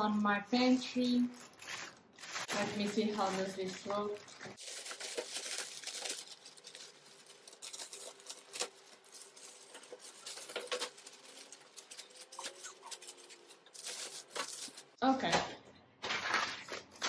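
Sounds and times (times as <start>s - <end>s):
plastic packaging crinkling: 0.0s - 15.0s, 16.0s - 17.0s.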